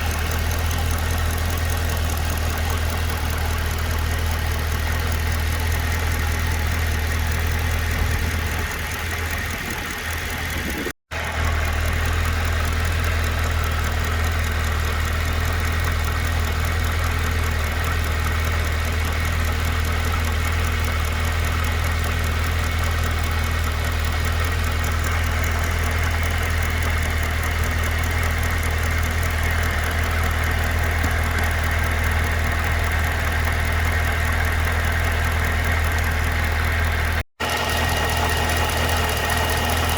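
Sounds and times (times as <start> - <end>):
car engine idling with ticking: 0.0 - 39.9.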